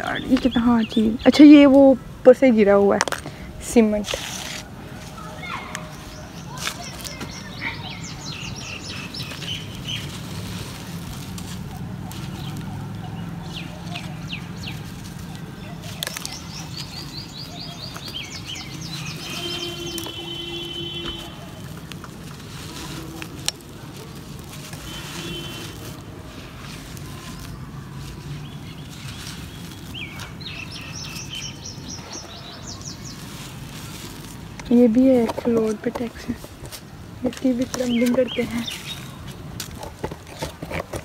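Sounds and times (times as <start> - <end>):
small birds chirping: 0.0 - 3.0, 3.6 - 39.6
crumbs trickling onto ground: 2.9 - 41.0
dirt clods crumbling: 4.0 - 41.0.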